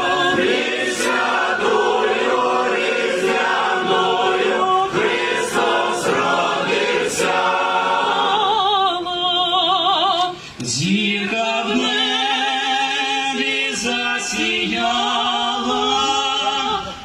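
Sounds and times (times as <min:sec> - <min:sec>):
choir singing a carol: 0:00.0 - 0:17.0.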